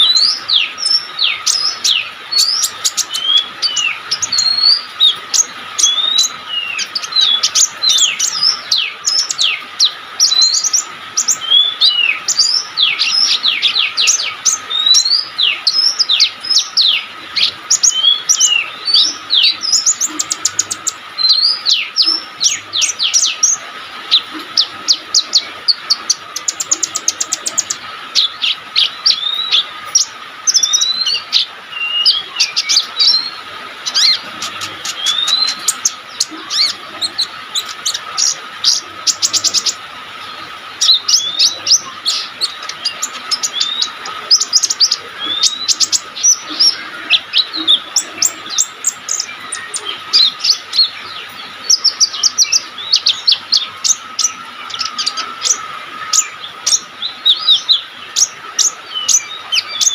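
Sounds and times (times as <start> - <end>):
bird singing chirps and trills: 0.0 - 59.9
faint steady hum: 0.0 - 59.9.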